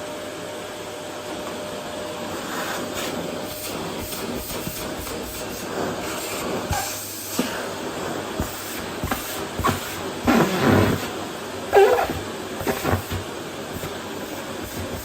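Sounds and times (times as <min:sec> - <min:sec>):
vacuum cleaner on wooden floor: 0:00.0 - 0:15.0.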